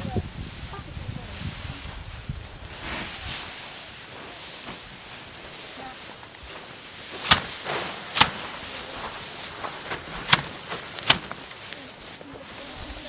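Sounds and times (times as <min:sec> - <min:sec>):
rice stalks thwacking: 0:00.0 - 0:13.0.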